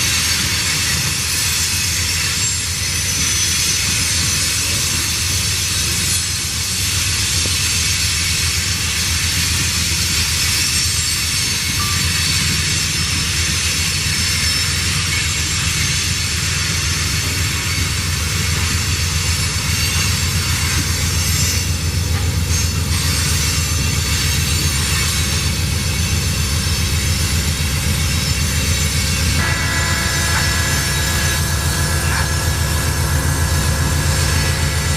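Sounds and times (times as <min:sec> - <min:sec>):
freight train rumbling past: 0:00.0 - 0:34.9
rail and wheel noise: 0:00.0 - 0:34.9.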